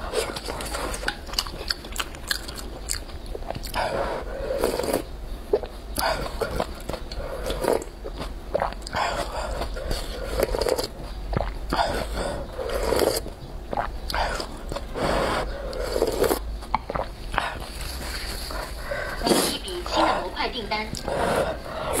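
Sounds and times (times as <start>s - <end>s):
noodles being chewed: 0.0s - 20.2s, 20.9s - 22.0s
broth slurping: 3.3s - 22.0s.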